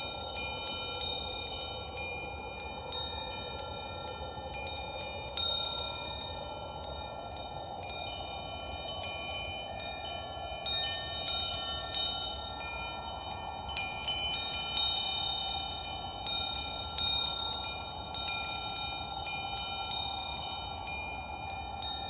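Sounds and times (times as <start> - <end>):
chimes ringing: 0.0 - 22.0.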